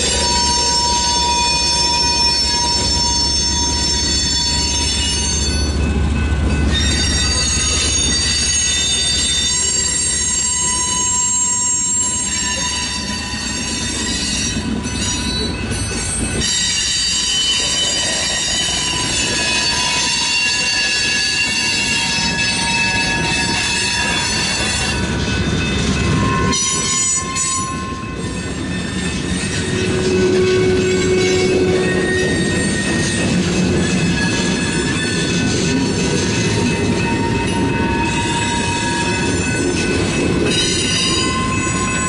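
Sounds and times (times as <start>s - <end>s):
low train rumble: 0.0s - 42.0s
train wheels squealing: 0.0s - 42.0s.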